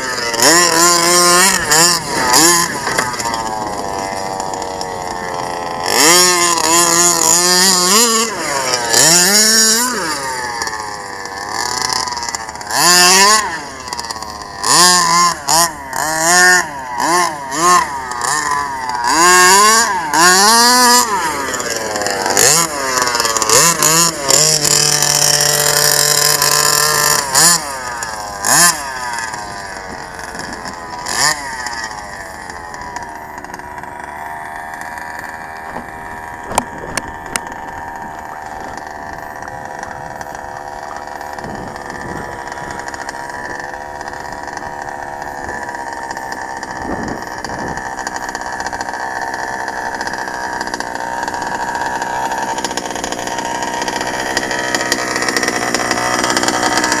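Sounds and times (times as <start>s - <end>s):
small two-stroke engine revving: 0.0s - 57.0s.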